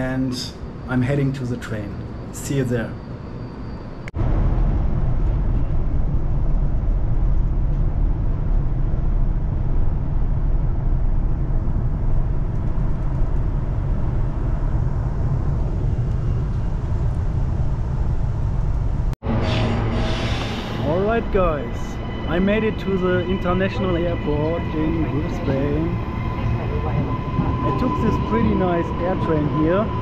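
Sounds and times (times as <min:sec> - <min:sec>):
train carriage rumble: 0:00.0 - 0:30.0.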